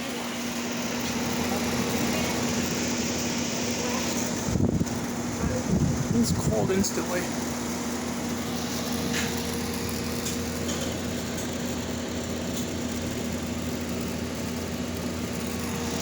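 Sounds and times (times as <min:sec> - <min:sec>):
air conditioner fan blowing: 0:00.0 - 0:16.0.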